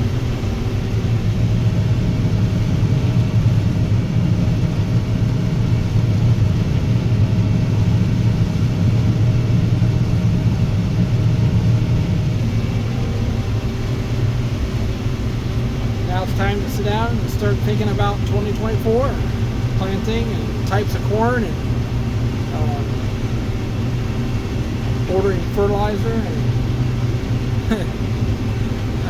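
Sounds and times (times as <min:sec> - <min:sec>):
combine harvester droning: 0:00.0 - 0:29.0.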